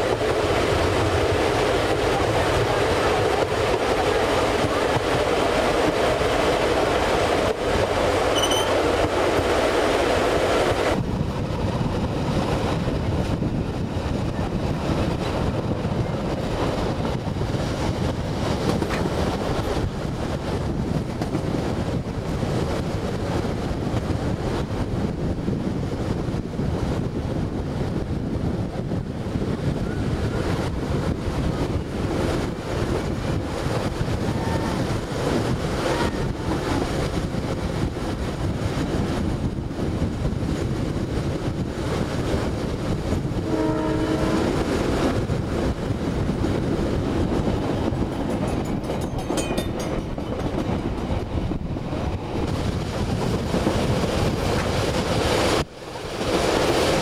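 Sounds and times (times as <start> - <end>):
train running noise: 0.0 - 57.0
wind buffeting microphone: 0.0 - 57.0.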